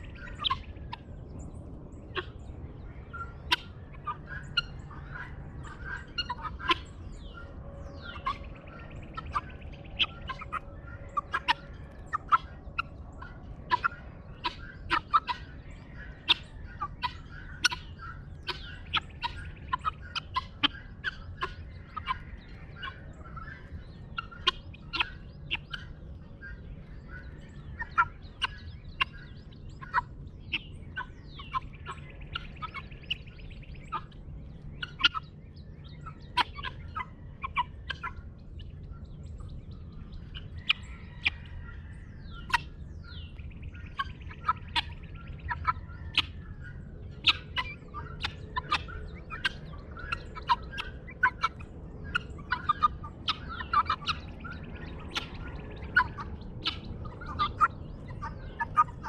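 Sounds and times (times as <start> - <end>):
faint birdsong: 0.0 - 59.0
guineafowl calling: 0.0 - 59.0
low background rumble: 0.0 - 59.0.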